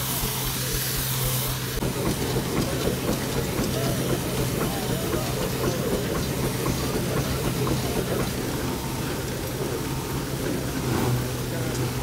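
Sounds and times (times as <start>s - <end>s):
threshing machine hum and rattle: 0.0s - 12.0s.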